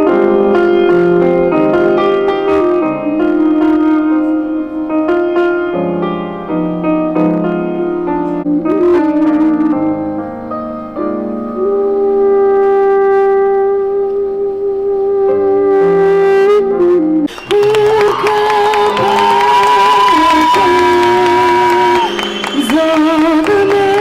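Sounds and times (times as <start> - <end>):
live ensemble music: 0.0 - 24.0.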